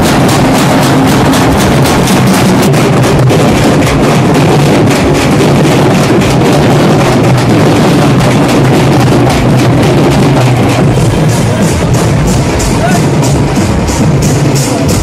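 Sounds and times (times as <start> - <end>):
frame drums fast beat: 0.0 - 15.0.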